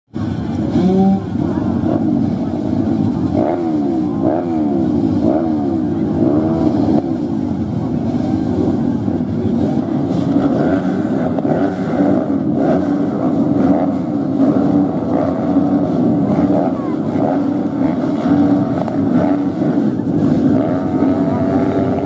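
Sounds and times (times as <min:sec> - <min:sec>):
dirt bike engines revving: 0:00.1 - 0:22.0.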